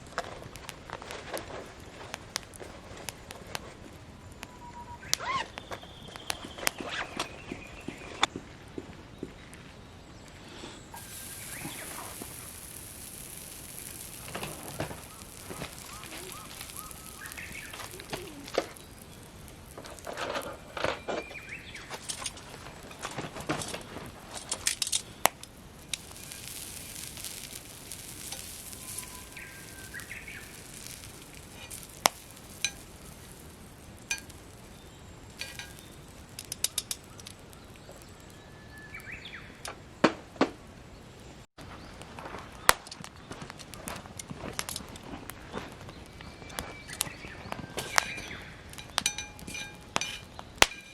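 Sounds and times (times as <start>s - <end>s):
meat sizzling on fire: 0.0s - 8.4s, 10.4s - 40.0s, 40.9s - 50.9s
campfire crackling and popping: 0.0s - 50.9s.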